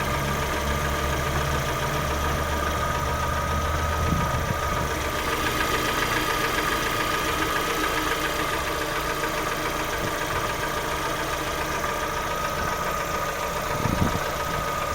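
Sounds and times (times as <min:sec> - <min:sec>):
car engine idling with knock: 0:00.0 - 0:14.9.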